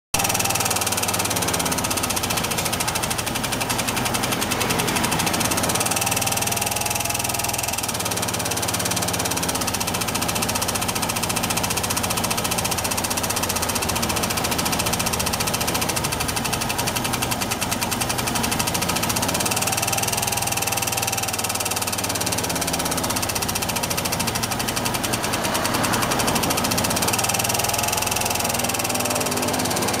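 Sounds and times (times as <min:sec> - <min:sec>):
scooter engine knocking tick: 0:00.2 - 0:30.0.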